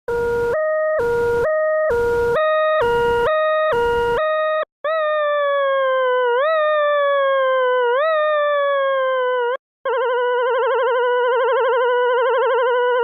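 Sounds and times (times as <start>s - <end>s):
two-pitch electronic siren tone: 0.1s - 13.0s.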